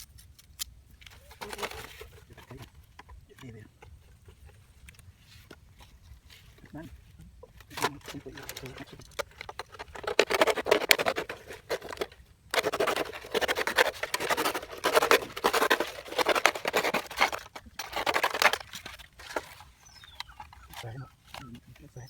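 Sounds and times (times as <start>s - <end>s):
rapid scratching and rustling: 1.1s - 22.0s.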